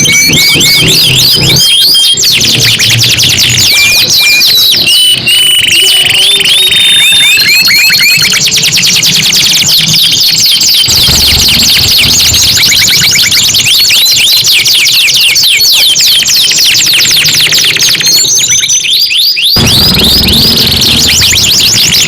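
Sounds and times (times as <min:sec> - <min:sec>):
canary singing trills: 0:00.0 - 0:22.0.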